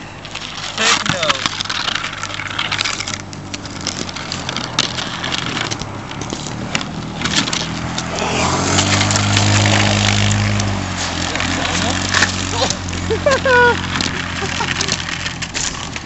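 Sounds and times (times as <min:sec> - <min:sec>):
car engine running: 0:00.0 - 0:16.0
scrapes and clicks on snow: 0:00.0 - 0:16.0.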